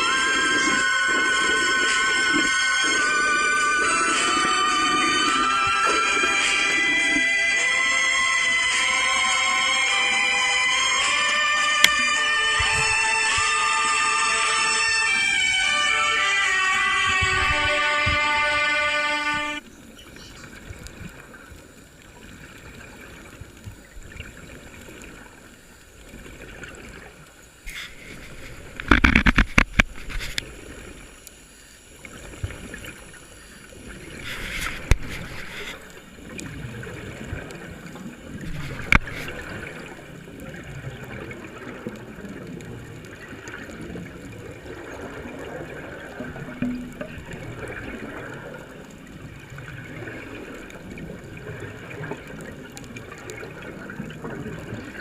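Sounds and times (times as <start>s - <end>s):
water gurgling and sloshing: 0.0s - 55.0s.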